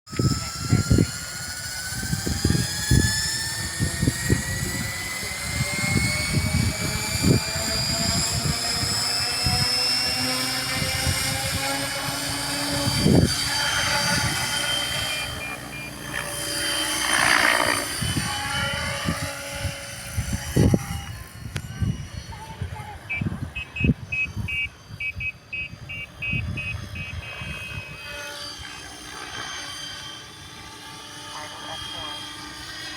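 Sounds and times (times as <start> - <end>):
wind buffeting microphone: 0.1 - 16.5, 17.1 - 28.2
model plane motor whining: 0.1 - 32.9.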